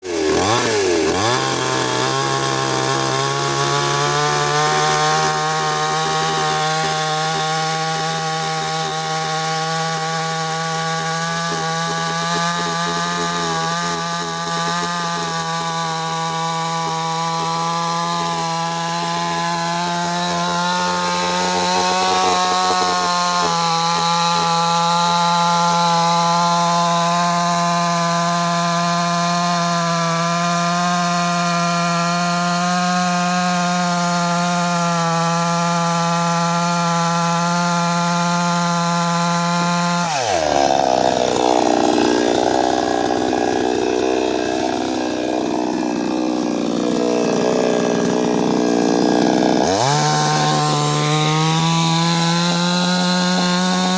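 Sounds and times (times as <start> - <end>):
chainsaw running at high revs: 0.0 - 53.9.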